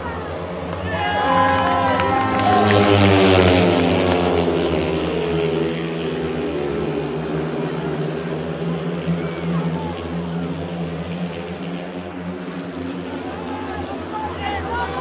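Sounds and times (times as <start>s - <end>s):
drone of racing motorcycles: 0.0s - 15.0s
motorcycle passing at full throttle: 0.0s - 15.0s.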